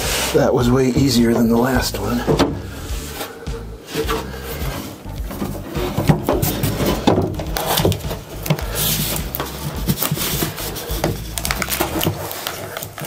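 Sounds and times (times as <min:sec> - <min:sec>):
wood knocking and scraping: 0:00.0 - 0:13.0.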